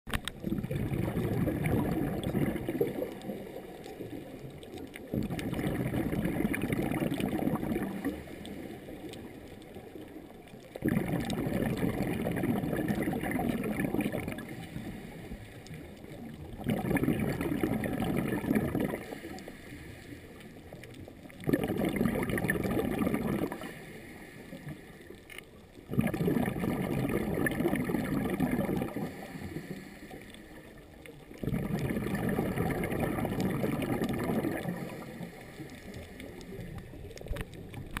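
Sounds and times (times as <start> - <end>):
underwater breathing bubbles: 0.1 - 38.0.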